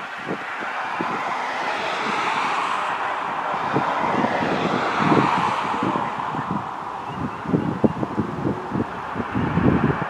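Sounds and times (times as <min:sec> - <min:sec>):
jet engines rushing: 0:00.0 - 0:10.0
wind buffeting microphone: 0:00.0 - 0:10.0.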